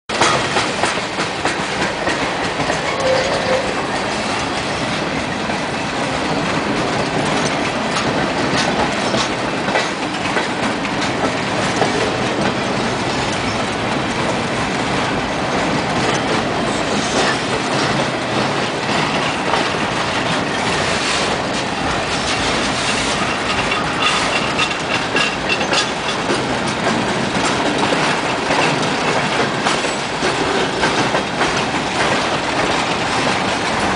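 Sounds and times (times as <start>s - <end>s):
steel wheels rumbling on rails: 0.1s - 33.9s
wheels clickety-clack over joints: 0.1s - 33.9s.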